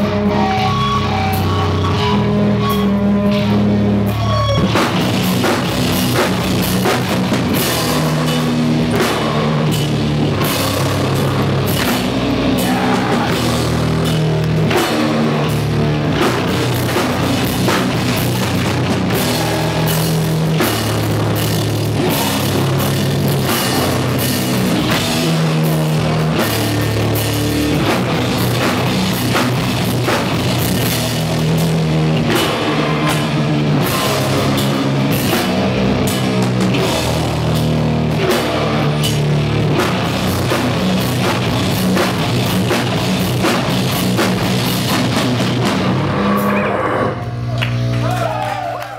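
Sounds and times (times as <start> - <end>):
distorted guitars and bass: 0.0 - 48.9
drum kit: 0.0 - 48.9.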